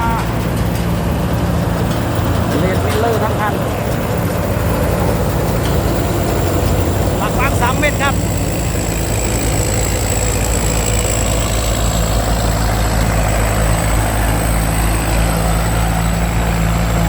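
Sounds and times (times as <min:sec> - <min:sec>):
diesel engine running: 0:00.0 - 0:17.0
high whine: 0:00.0 - 0:17.0.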